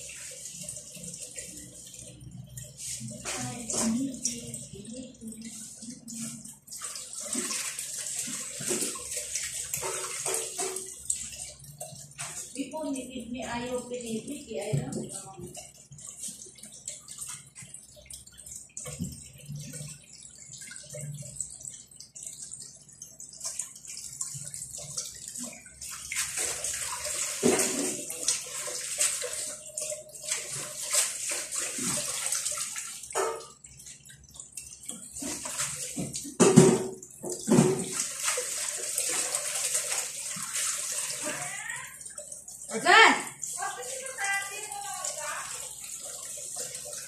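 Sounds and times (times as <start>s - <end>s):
water running: 0.0s - 47.0s.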